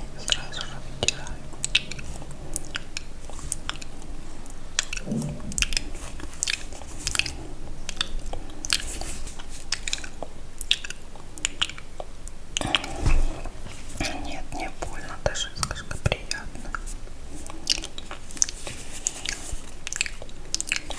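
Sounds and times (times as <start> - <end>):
wet lip and tongue clicks: 0.2 - 13.4, 14.0 - 20.9.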